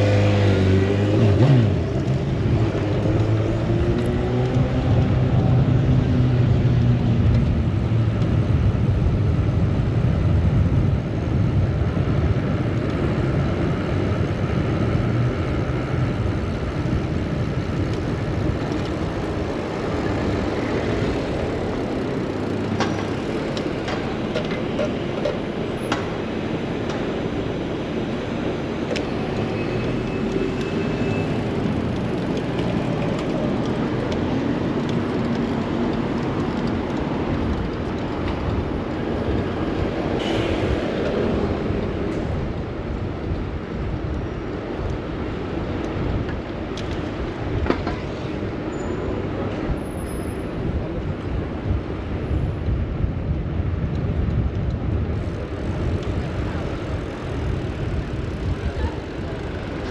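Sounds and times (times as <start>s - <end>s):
city street traffic noise: 0.0s - 59.9s.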